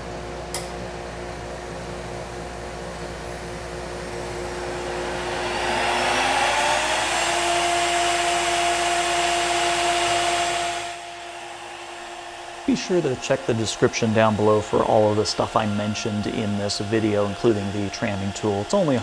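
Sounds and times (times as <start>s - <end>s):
cnc router spindle whine: 1.5s - 19.0s.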